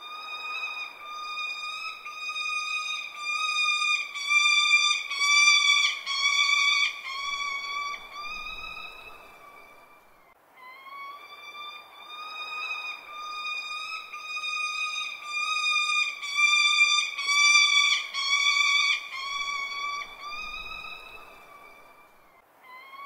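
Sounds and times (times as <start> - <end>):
falcon calling: 0.0 - 23.0.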